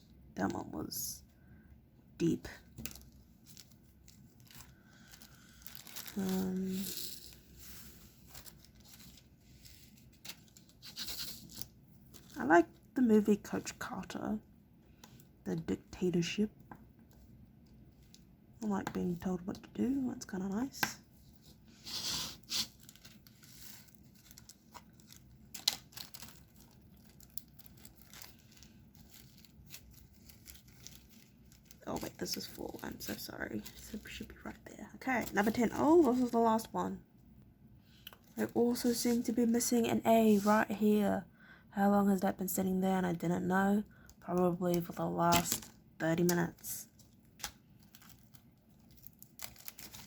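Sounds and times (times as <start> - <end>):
faint plastic crinkle: 2.5 - 13.9, 14.8 - 36.8, 37.9 - 39.6, 43.8 - 50.0.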